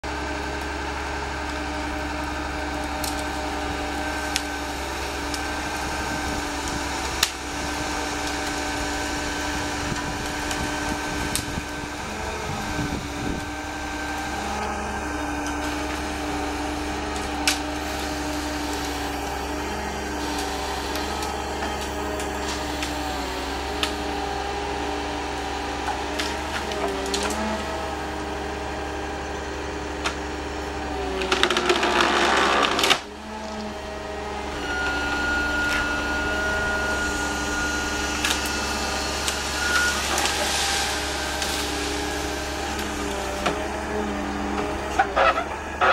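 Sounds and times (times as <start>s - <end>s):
machine engine and hydraulics running: 0.0s - 45.9s
wood cracking: 0.1s - 29.3s, 29.9s - 34.9s, 37.1s - 45.9s.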